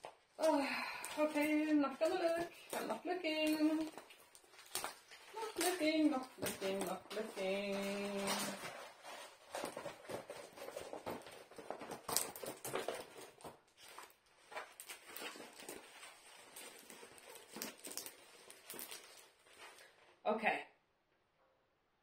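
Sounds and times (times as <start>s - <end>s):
plastic film crinkling: 0.0s - 20.2s.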